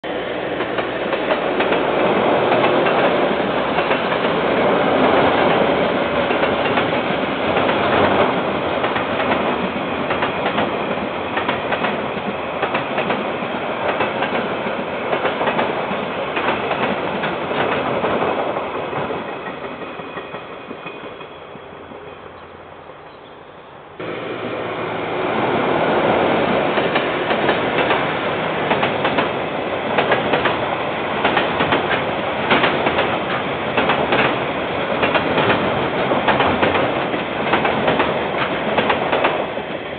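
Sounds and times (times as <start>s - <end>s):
freight train wheels clattering: 0.5s - 21.5s, 26.5s - 39.7s.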